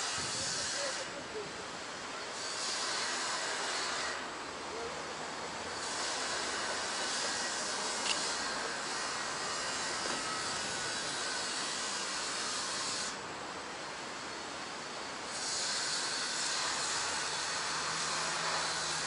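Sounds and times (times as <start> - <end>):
steam hissing: 0.0 - 1.4, 2.2 - 13.3, 15.1 - 19.0.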